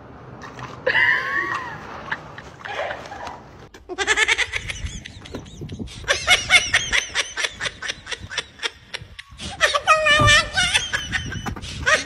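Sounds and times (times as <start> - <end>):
person laughing hard: 0.9 - 12.0.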